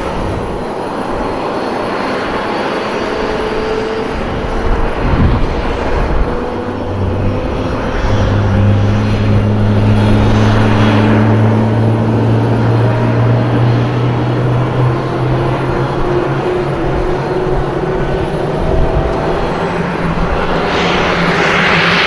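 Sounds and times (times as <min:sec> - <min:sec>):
loud jet noise: 0:00.0 - 0:22.0.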